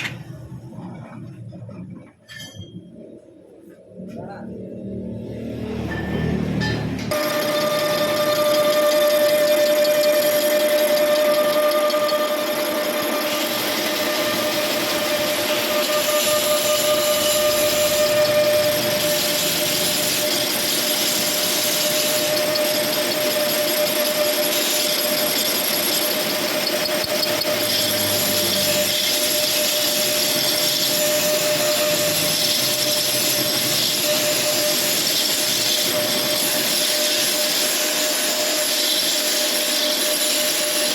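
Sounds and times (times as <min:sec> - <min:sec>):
machine motor whining: 0:07.0 - 0:40.9.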